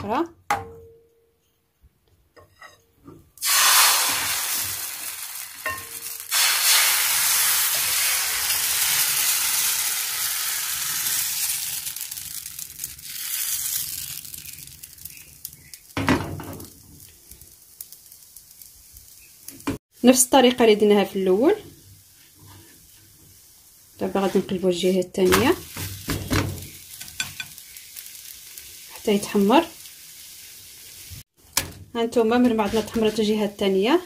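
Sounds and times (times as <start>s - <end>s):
batter sizzling in frying pan: 3.4s - 34.0s.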